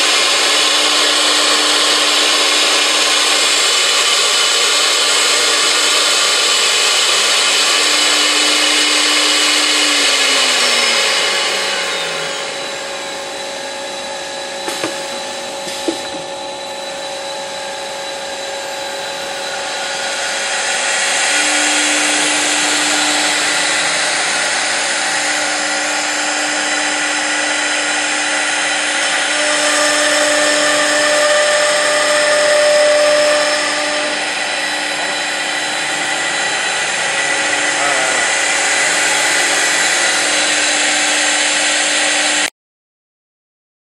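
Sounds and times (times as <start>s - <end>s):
spindle motors whining: 0.0s - 42.5s
wood cutting hiss: 0.0s - 42.5s.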